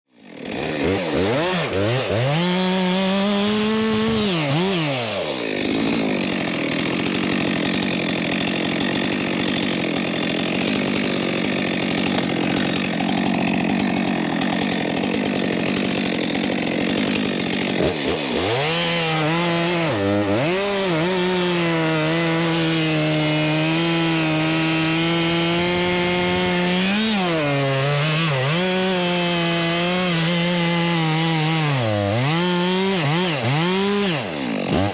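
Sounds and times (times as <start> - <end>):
chainsaw cutting log: 0.1 - 34.9.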